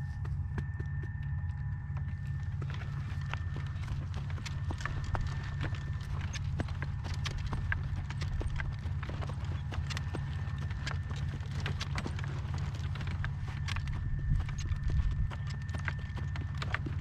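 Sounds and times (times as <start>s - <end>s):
horse hooves clopping: 0.0s - 17.0s
wind buffeting microphone: 2.6s - 17.0s.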